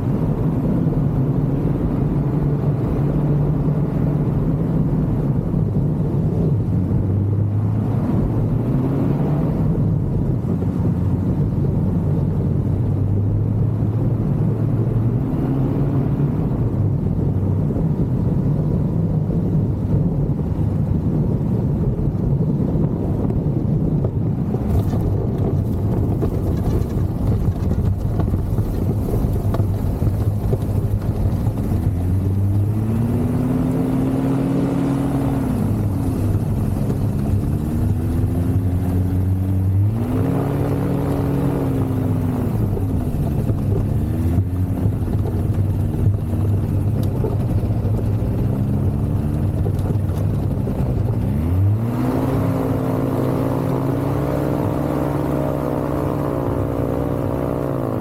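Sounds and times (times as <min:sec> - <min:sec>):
aircraft engine in flight: 0:00.0 - 0:58.0.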